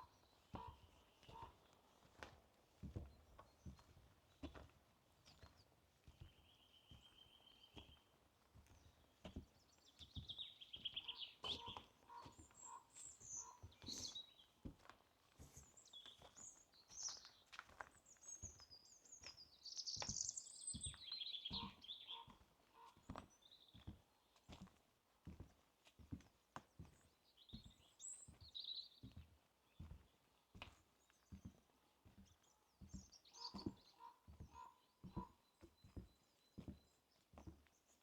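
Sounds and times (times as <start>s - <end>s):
birds singing: 0.0s - 2.1s, 3.1s - 14.6s, 15.6s - 24.6s, 26.6s - 38.0s
soft footsteps on forest path: 0.0s - 38.0s.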